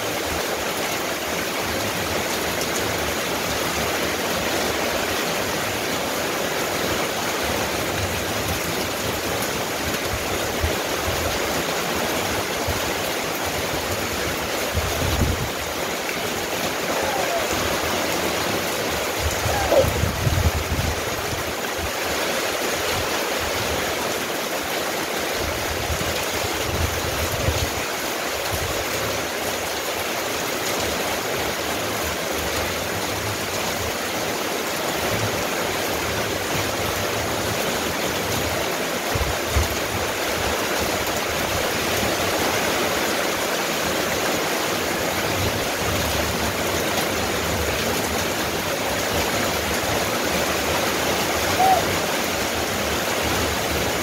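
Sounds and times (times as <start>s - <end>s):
rain on metal roof: 0.0s - 54.0s.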